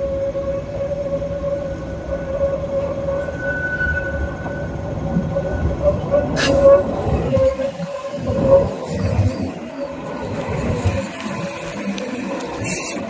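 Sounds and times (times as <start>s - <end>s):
light rail vehicles whining: 0.0s - 13.0s.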